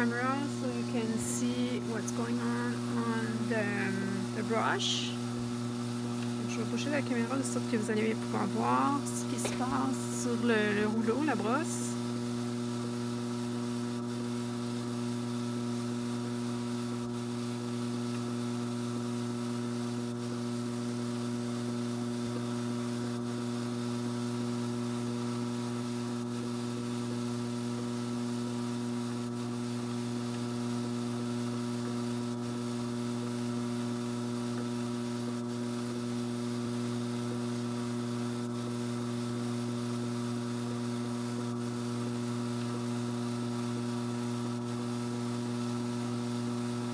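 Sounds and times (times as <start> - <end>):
motor hum: 0.0 - 46.9.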